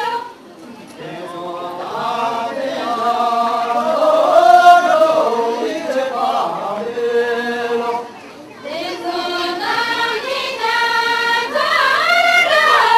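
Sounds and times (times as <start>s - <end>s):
group of voices singing: 0.0s - 0.4s, 1.0s - 12.9s.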